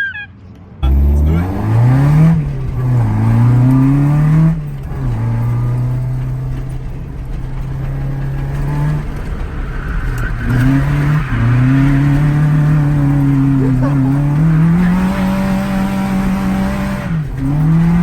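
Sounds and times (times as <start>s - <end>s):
car engine revving: 0.8s - 18.0s.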